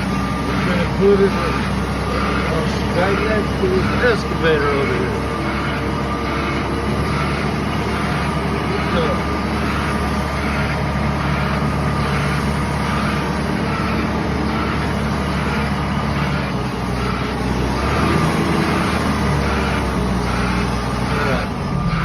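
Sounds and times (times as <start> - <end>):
backup alarm beeping: 0.0 - 22.0
diesel engine running under load: 0.0 - 22.0.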